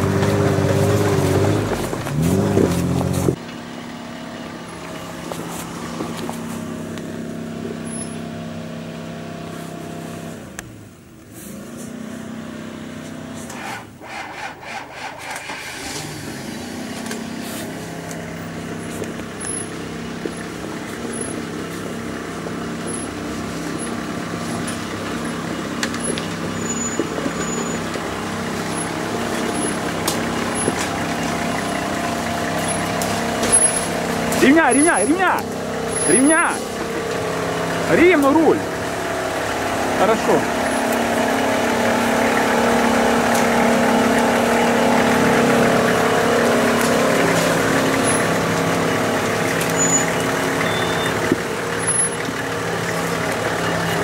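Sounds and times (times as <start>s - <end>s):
suv engine running at low revs: 0.0s - 13.6s, 15.6s - 54.0s.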